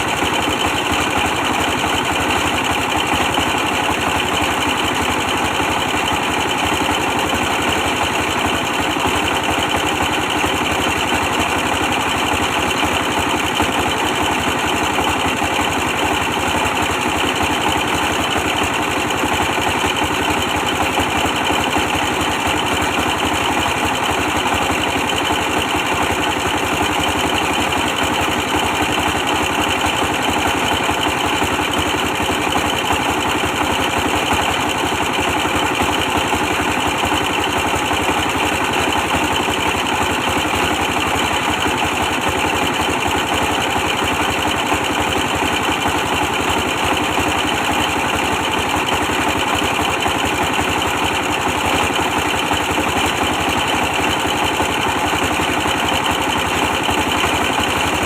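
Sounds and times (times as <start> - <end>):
diesel engine running steadily: 0.0 - 58.0.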